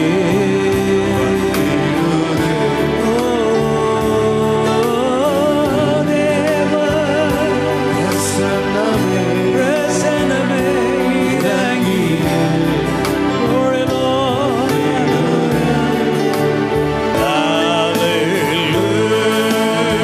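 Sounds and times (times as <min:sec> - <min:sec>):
instrumental backing with beat: 0:00.0 - 0:20.0
man singing with vibrato: 0:00.0 - 0:20.0.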